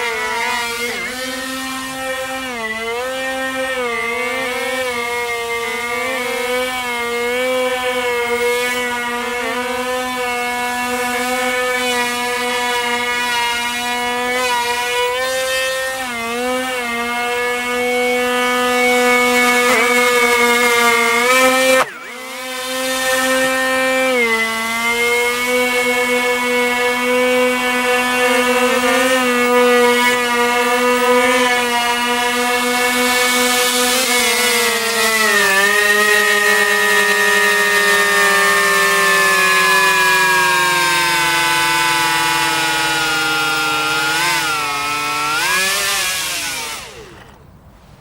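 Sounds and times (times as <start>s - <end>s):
electric motors and propellers whining: 0.0s - 48.0s.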